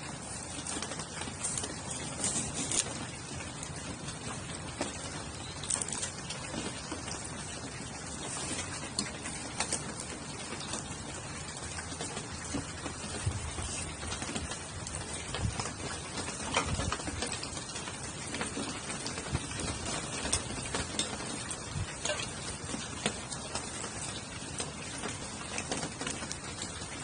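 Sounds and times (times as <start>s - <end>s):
campfire crackling and popping: 0.0s - 27.0s
steady rain hiss: 0.0s - 27.0s.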